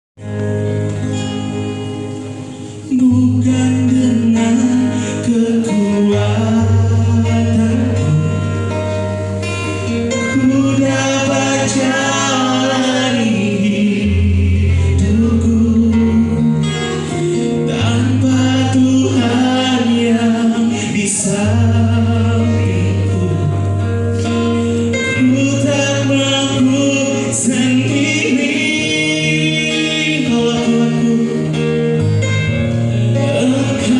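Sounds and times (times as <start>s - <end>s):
instrumental accompaniment: 0.2s - 33.9s
person singing worship song: 2.2s - 9.1s, 9.8s - 33.9s.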